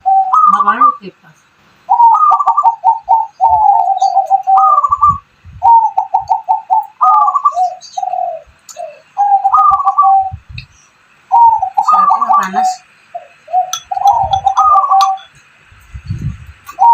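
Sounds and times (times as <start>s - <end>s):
dove cooing: 0.0s - 1.0s, 1.9s - 10.5s, 11.3s - 15.3s, 16.7s - 16.9s
small birds chirping: 0.0s - 16.9s.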